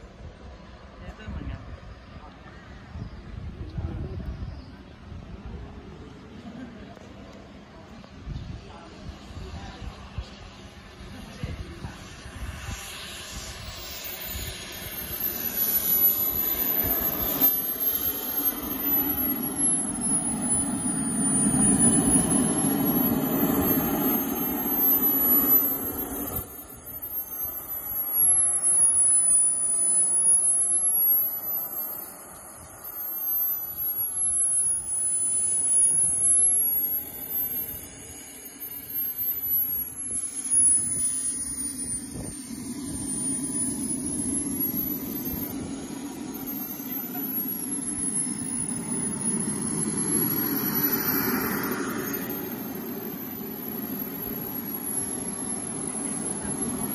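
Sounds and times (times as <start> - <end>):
jet turbine whine: 0.0 - 56.9
rushing jet exhaust: 8.5 - 56.9.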